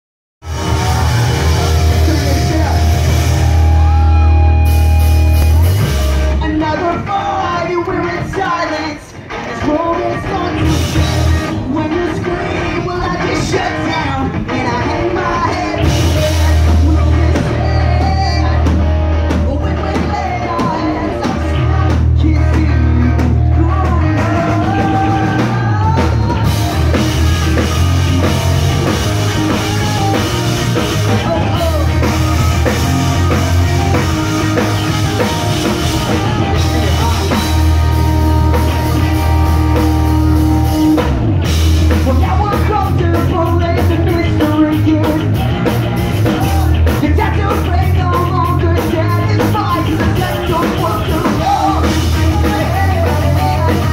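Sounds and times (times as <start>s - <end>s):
bass guitar: 0.4s - 53.9s
drum kit: 0.4s - 53.9s
electric guitars: 0.4s - 53.9s
man singing: 6.3s - 41.0s, 41.8s - 53.9s.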